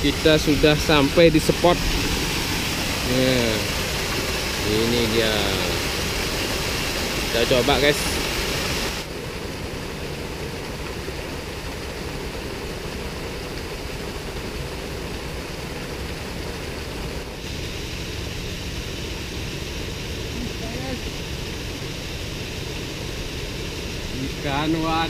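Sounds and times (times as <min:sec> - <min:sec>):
waterfall and stream rushing: 0:00.0 - 0:25.0.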